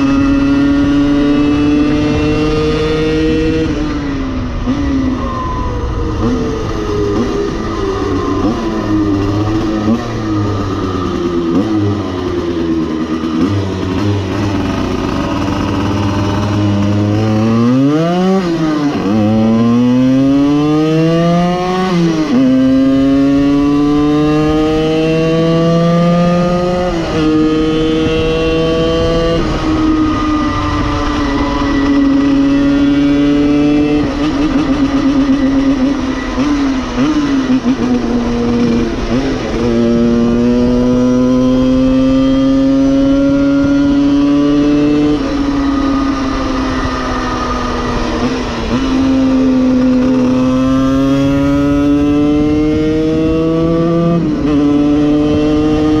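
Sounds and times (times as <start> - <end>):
two-stroke moped engine revving: 7.0 - 56.0.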